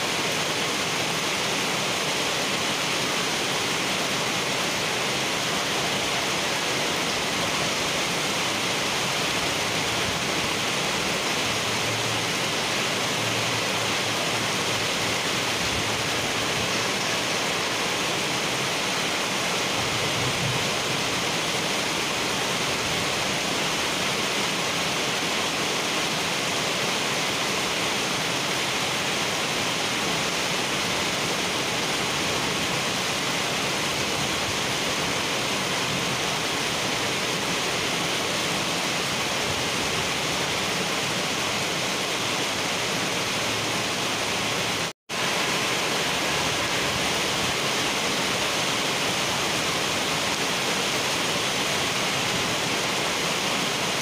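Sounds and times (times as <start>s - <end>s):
heavy rain on paved road: 0.0s - 54.0s.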